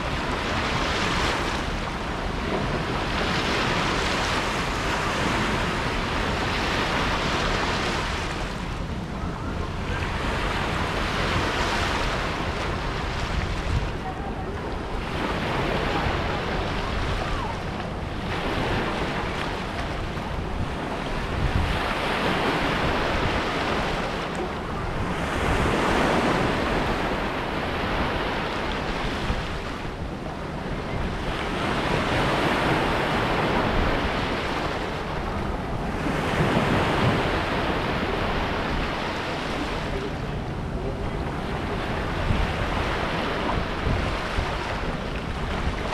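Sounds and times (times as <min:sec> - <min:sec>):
sea waves breaking on sand and rocks: 0:00.0 - 0:45.9
wind rumbling on microphone: 0:00.0 - 0:45.9.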